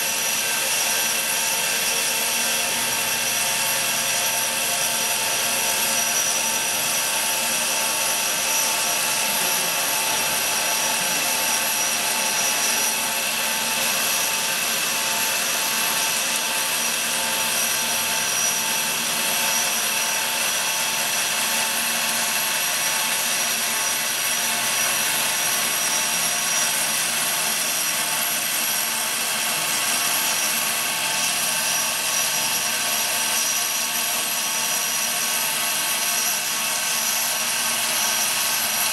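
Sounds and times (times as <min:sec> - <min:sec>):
foam-cutting machine whine: 0:00.0 - 0:38.9.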